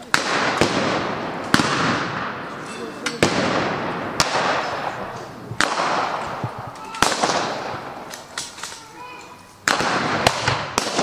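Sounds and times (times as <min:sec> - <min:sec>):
rifle gunshots with echo: 0:00.0 - 0:02.6, 0:03.2 - 0:08.4, 0:09.6 - 0:11.0.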